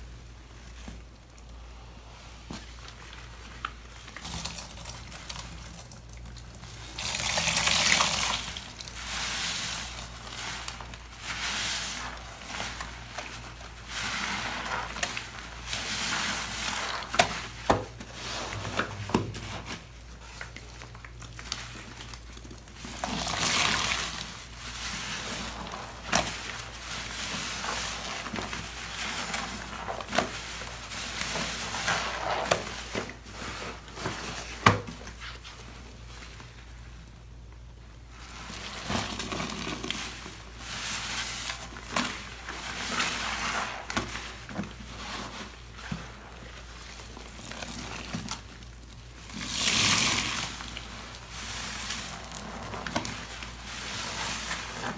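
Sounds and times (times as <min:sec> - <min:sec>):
wet sponges squelching: 0:00.0 - 0:54.9.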